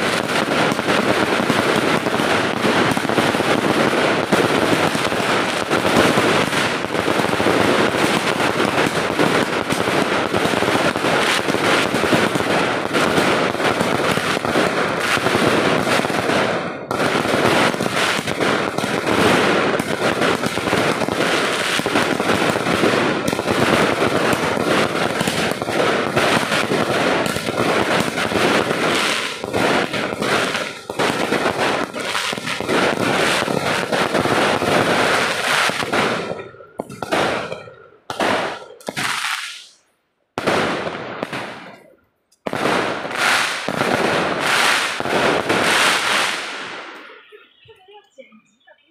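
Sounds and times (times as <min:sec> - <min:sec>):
fireworks crackling bangs: 0:00.0 - 0:48.9.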